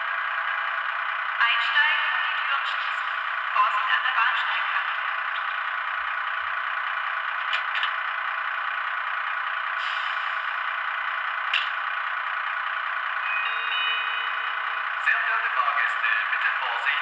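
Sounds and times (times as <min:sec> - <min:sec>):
diesel engine idling through small speaker: 0:00.0 - 0:17.0.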